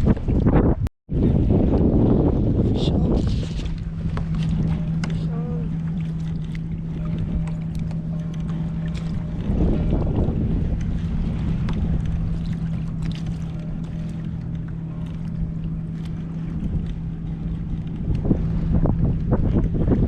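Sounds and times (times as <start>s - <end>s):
boat engine humming: 0.0s - 20.0s
wind buffeting microphone: 0.0s - 20.0s.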